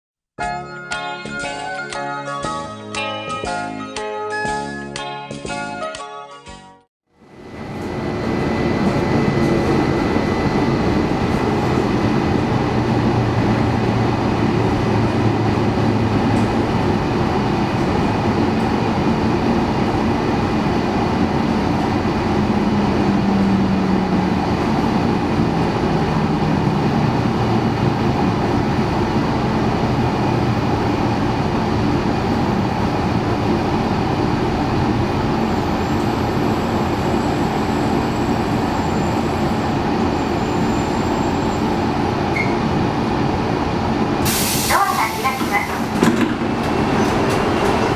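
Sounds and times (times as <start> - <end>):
train rumble and hum: 7.2 - 47.9.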